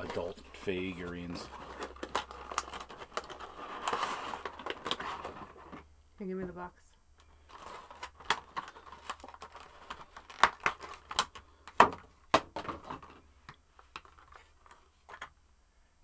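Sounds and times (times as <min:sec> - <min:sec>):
packaging clicks and crinkles: 0:00.0 - 0:05.8, 0:07.2 - 0:15.3.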